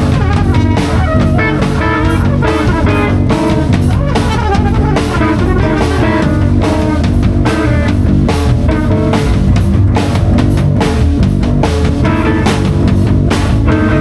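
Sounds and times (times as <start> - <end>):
drum and cymbal hits: 0.0 - 14.0
electric guitar: 0.0 - 14.0
steady bass: 0.0 - 14.0.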